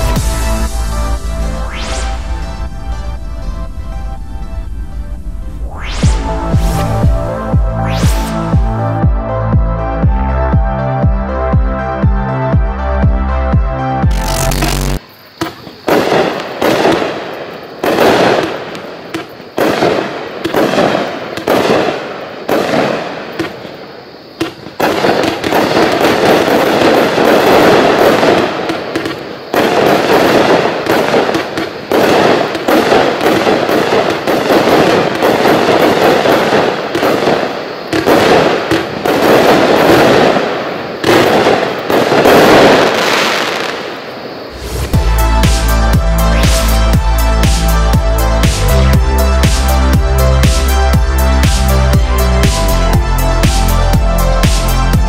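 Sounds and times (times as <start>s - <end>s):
fireworks shots and bursts: 0.0s - 3.0s, 5.7s - 8.8s, 14.0s - 55.0s.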